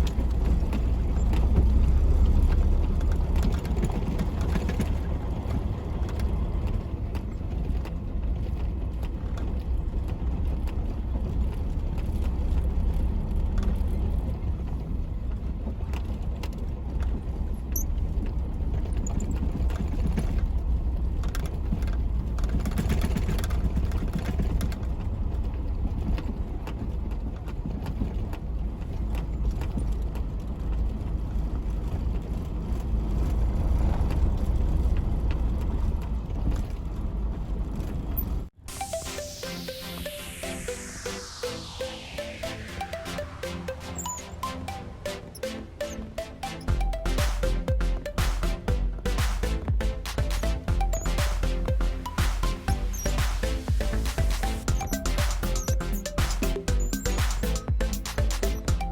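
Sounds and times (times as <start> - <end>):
truck engine rumble: 0.0 - 58.9.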